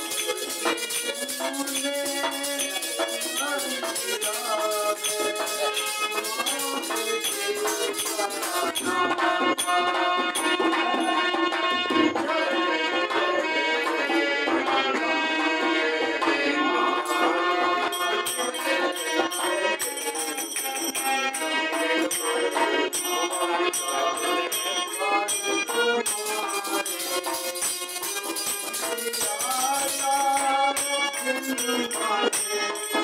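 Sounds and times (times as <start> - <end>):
dholak drum beat: 0.0 - 33.0
harmonium melody: 0.0 - 33.0
jingling metal percussion: 0.0 - 33.0.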